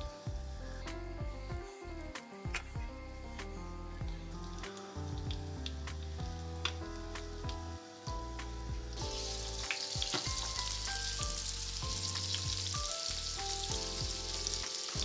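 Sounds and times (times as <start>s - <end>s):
background music: 0.0s - 15.0s
fish sizzling in a pan: 0.0s - 15.0s.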